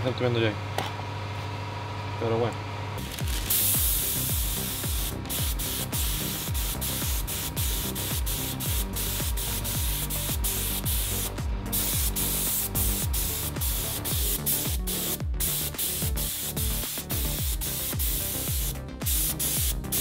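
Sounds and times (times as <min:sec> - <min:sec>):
background music with beat: 0:03.0 - 0:20.0
spray gun hissing: 0:03.5 - 0:20.0.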